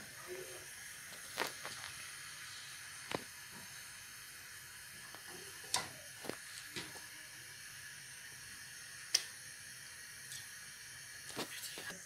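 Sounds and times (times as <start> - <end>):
gas burner hissing: 0.0 - 12.0.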